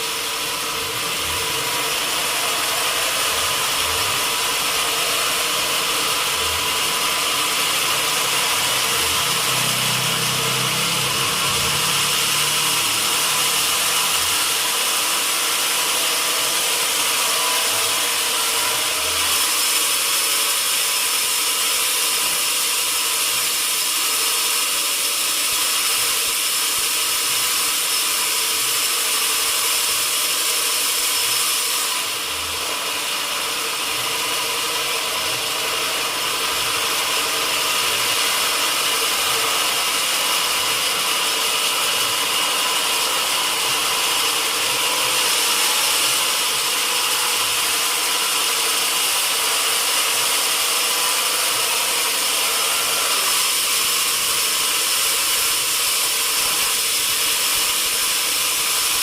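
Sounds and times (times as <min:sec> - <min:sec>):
sawmill saw whining: 0:00.0 - 0:59.0.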